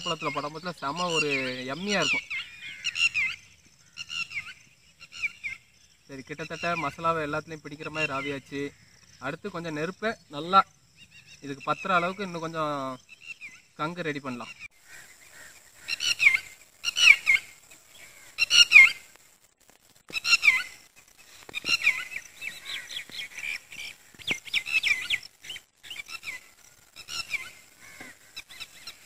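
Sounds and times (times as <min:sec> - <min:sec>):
birds calling: 0:00.0 - 0:19.4, 0:20.0 - 0:29.0.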